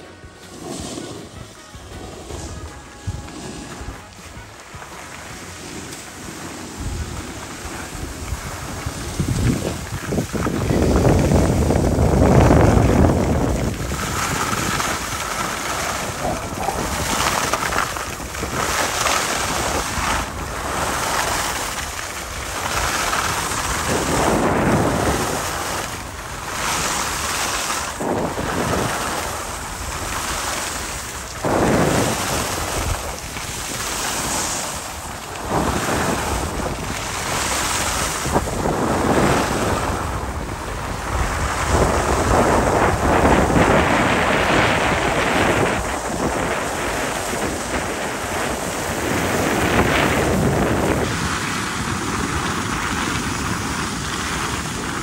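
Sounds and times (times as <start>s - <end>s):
skis carving over snow: 0.0s - 55.0s
wind buffeting microphone: 0.0s - 55.0s.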